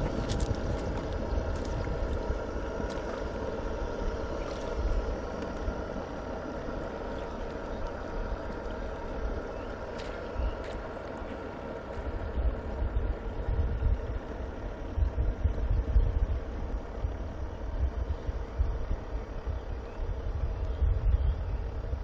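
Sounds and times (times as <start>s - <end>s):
faint steady tones: 0.0s - 22.0s
low rumble: 0.0s - 22.0s
model boat motor hum: 0.0s - 22.0s.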